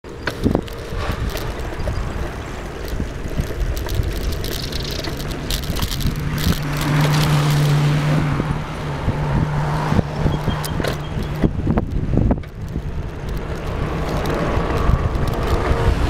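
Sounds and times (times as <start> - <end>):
engine hum: 0.0 - 16.0
wind on microphone: 0.2 - 16.0.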